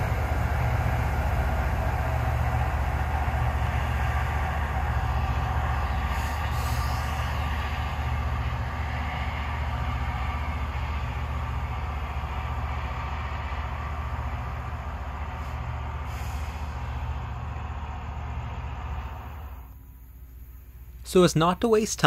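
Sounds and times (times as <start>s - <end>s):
rail grinding train rumbling: 0.0s - 22.0s.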